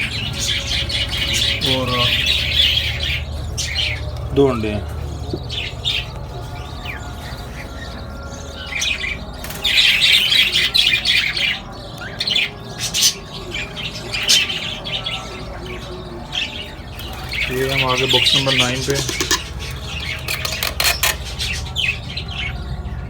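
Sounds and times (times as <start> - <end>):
parrots chirping and squawking: 0.0 - 23.0.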